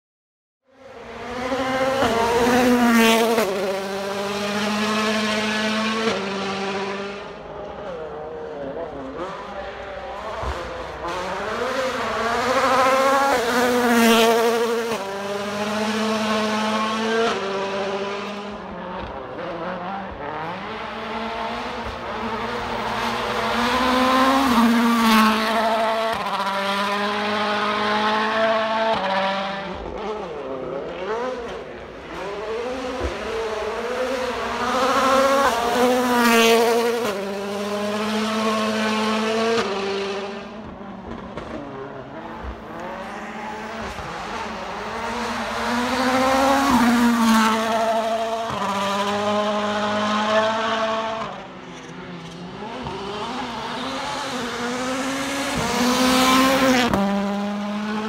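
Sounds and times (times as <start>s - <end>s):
rally car engines revving: 0.7s - 58.0s.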